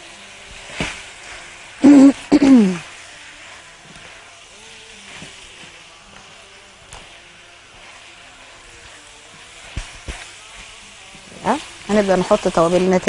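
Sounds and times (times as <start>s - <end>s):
meat and onion sizzling: 0.0s - 13.0s.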